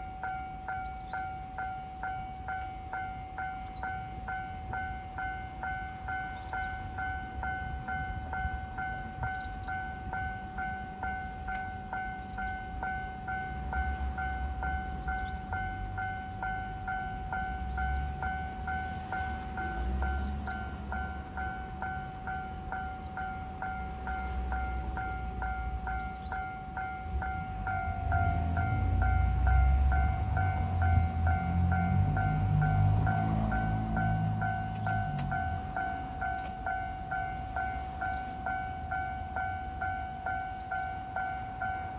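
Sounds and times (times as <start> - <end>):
level crossing warning bell: 0.0 - 41.9
low train rumble: 0.0 - 41.9.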